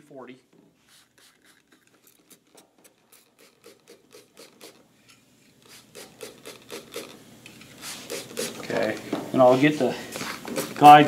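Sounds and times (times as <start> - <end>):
spritzing and rubbing: 0.7 - 4.9, 5.6 - 11.0.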